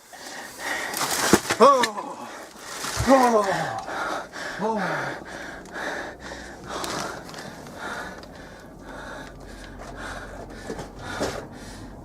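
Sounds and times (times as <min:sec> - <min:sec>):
person breathing hard in gasps: 0:00.0 - 0:01.2, 0:02.1 - 0:12.0.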